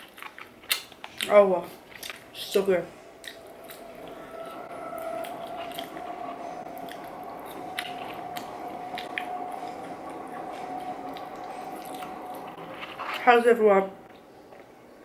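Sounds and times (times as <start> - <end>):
wet chewing of food: 0.0 - 13.4
faint steady hum: 0.0 - 15.0.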